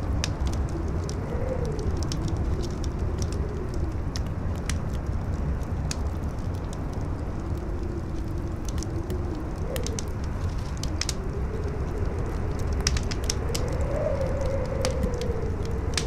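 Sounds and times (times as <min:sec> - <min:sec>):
campfire crackling: 0:00.0 - 0:16.0
howling wind: 0:00.0 - 0:16.0.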